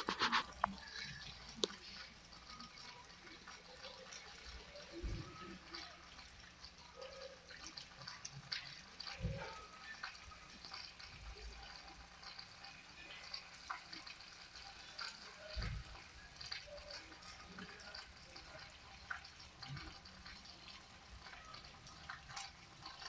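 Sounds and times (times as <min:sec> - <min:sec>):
water trickling and dripping: 0:00.0 - 0:23.0.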